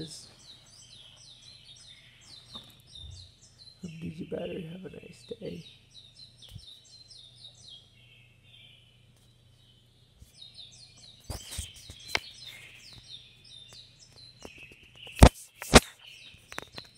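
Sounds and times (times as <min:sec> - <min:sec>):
faint steady low hum: 0:00.0 - 0:15.2
rapid high bird-like chirps: 0:00.0 - 0:16.9.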